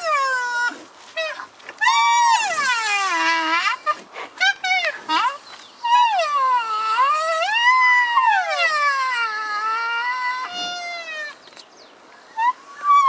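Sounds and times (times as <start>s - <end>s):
rhino calves high-pitched calls: 0.0s - 11.4s, 12.4s - 13.0s.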